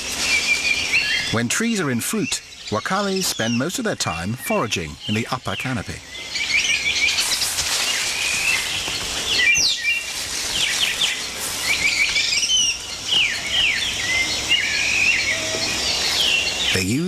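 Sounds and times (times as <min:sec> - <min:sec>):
high chirping calls: 0:00.0 - 0:17.0
insects hissing: 0:00.0 - 0:17.0.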